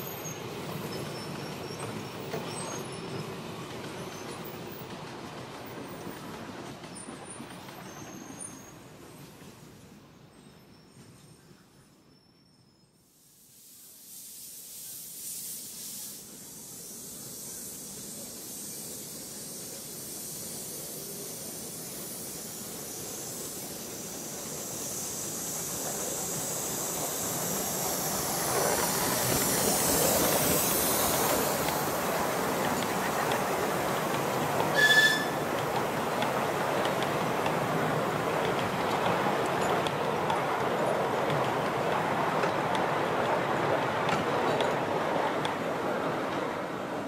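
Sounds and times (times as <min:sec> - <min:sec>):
steam hiss: 0:00.0 - 0:10.0, 0:13.0 - 0:47.0
steam locomotive passing: 0:00.0 - 0:12.0, 0:13.1 - 0:47.0.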